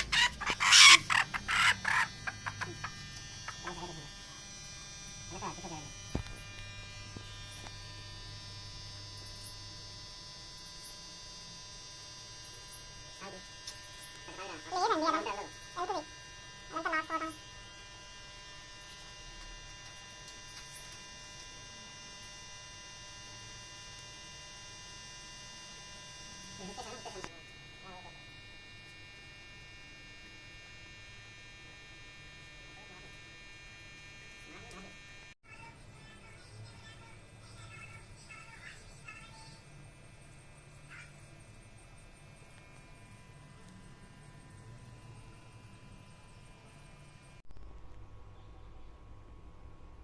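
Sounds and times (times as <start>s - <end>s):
electrical hum and buzz: 0.0s - 50.0s.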